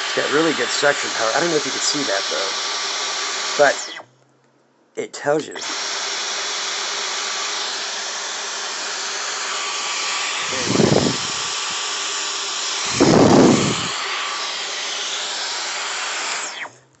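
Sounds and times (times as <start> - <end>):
low rumbles of cleaner head: 0.0 - 2.7, 5.1 - 16.4
vacuum cleaner whirring: 0.0 - 4.0, 5.4 - 17.0.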